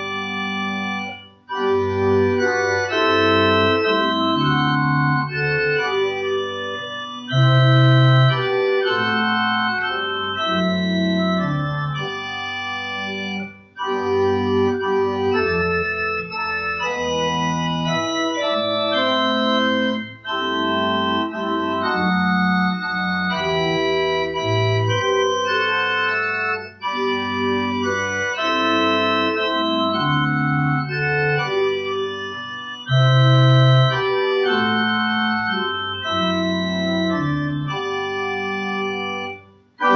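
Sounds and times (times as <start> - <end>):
pipe organ playing hymn chords: 0.0 - 39.9.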